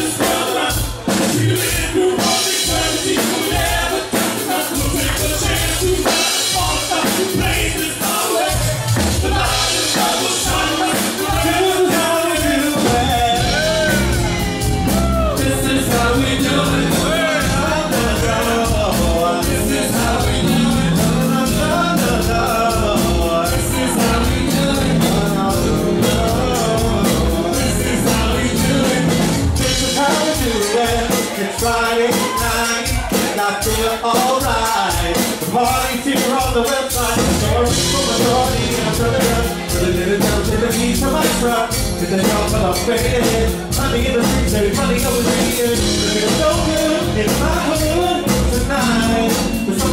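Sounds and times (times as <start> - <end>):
bass guitar: 0.0 - 34.2, 36.9 - 49.9
lead vocalist singing: 0.0 - 49.9
live band playing dance song: 0.0 - 49.9
steady drum beat: 0.0 - 49.9.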